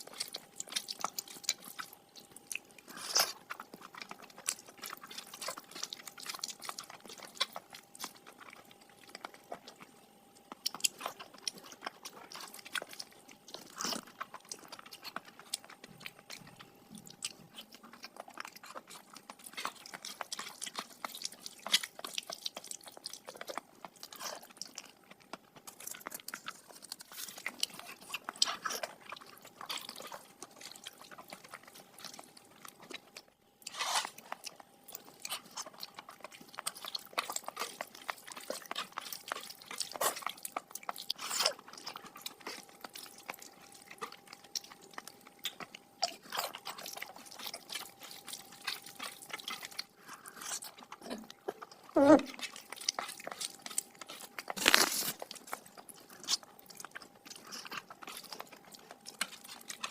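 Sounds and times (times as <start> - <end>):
close chewing with wet smacks: 0.0 - 59.9.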